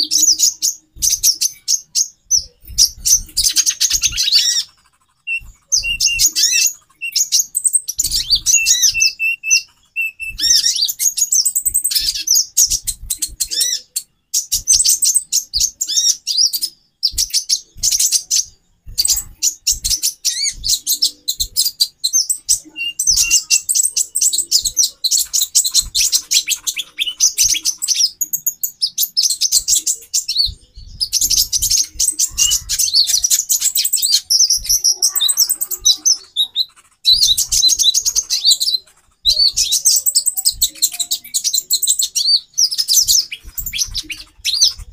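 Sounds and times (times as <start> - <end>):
birds chirping and twittering: 0.0 - 44.9.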